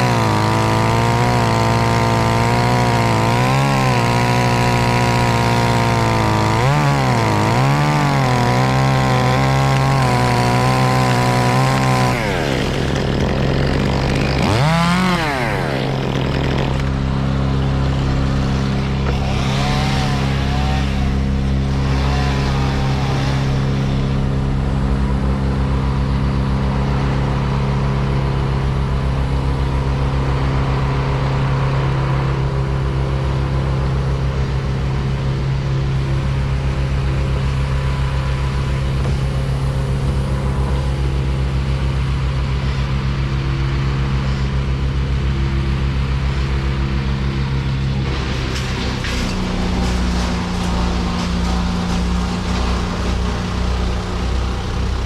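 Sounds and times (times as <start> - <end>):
engine running hard: 0.0 - 55.0.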